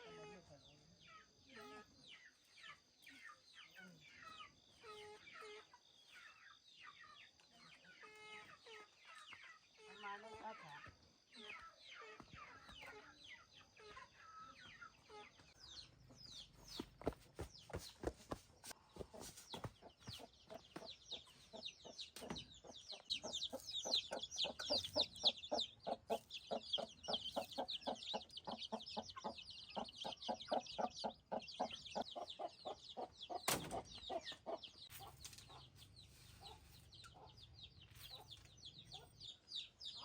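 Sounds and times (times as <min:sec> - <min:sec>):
chickens clucking: 0:00.0 - 0:40.0
chicks cheeping: 0:00.2 - 0:40.0.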